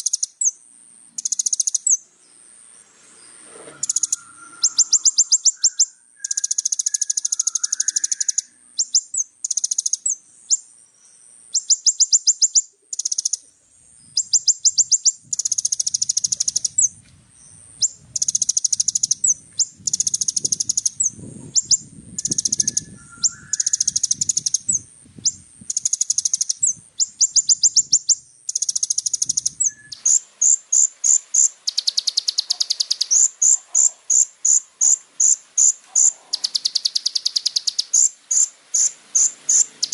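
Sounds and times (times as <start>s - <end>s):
sharp bird chips: 0.0s - 0.6s, 1.2s - 2.0s, 3.8s - 10.6s, 11.5s - 13.4s, 14.2s - 17.0s, 17.8s - 39.9s
bird singing high rapid trills: 0.0s - 39.9s.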